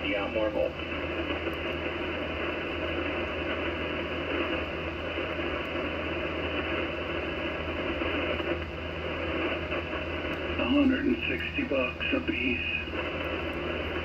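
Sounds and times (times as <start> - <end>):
radio static hiss: 0.0 - 14.0
steady low hum: 0.0 - 14.0.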